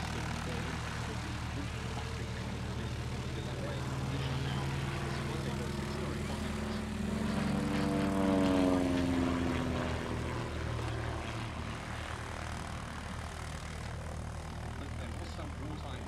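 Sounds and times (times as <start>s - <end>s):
propeller aircraft engine droning: 0.0s - 16.0s.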